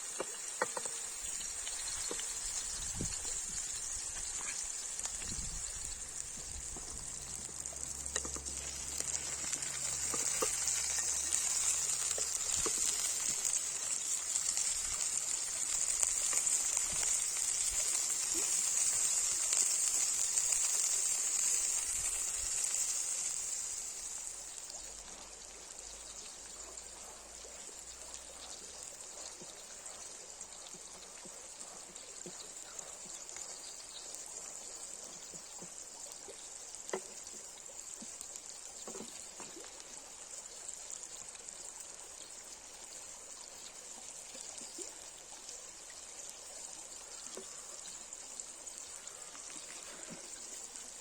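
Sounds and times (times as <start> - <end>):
burger patties sizzling: 0.0 - 51.0.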